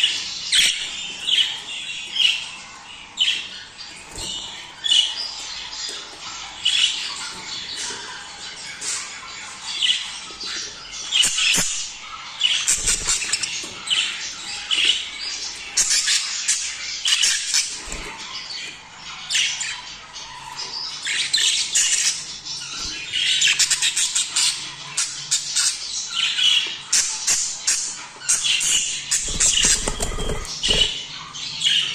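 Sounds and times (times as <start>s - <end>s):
budgerigars chattering: 0.0s - 31.9s.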